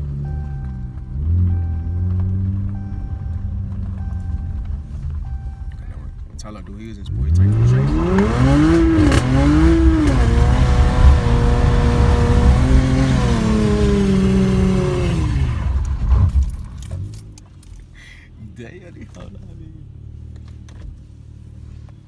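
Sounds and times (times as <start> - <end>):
car exhaust accelerating hard: 0.0 - 17.7.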